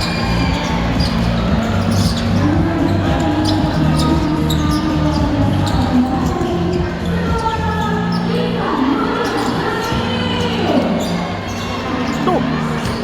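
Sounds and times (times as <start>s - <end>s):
crowd voices: 0.0s - 13.0s.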